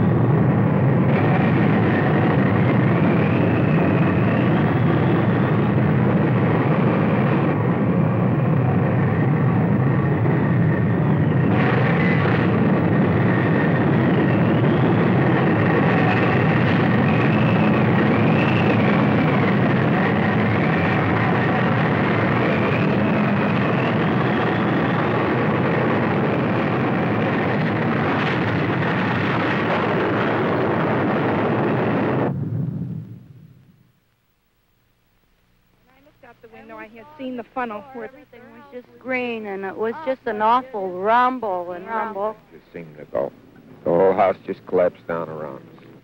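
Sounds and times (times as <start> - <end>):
tornado wind roaring: 0.0 - 33.8, 36.6 - 46.0.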